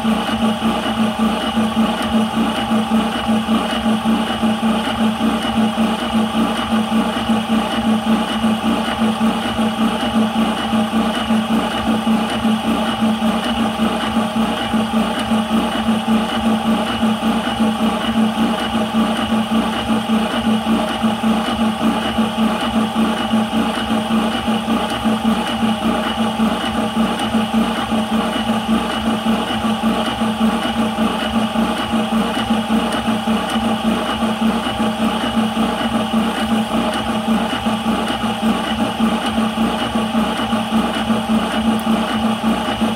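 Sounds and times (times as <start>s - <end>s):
air compressor pumping: 0.0s - 42.9s.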